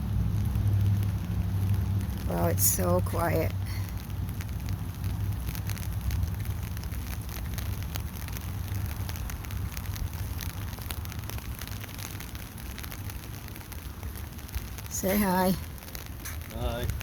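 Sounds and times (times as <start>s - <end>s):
raindrops pattering: 0.0s - 17.0s.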